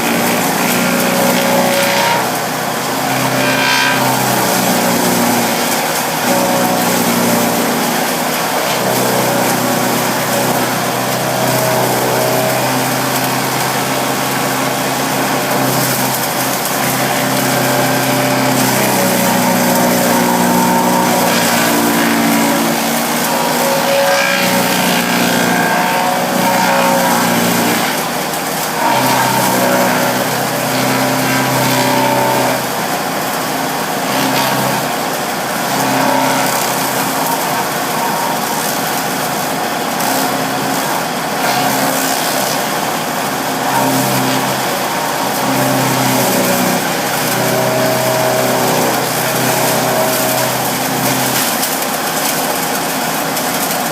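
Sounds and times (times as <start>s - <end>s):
wood chipper running: 0.0s - 53.9s.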